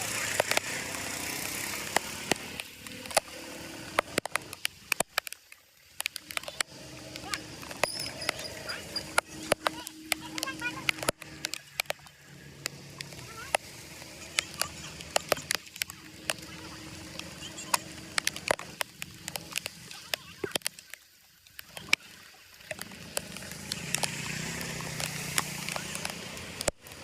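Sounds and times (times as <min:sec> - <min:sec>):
sharp clicks and knocks: 0:00.0 - 0:21.0, 0:22.7 - 0:27.0
water sloshing and splashing: 0:00.0 - 0:27.0.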